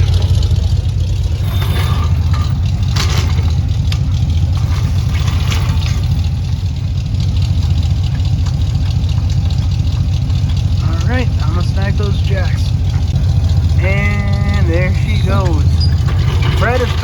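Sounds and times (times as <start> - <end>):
engine idling with low growl: 0.0 - 17.0.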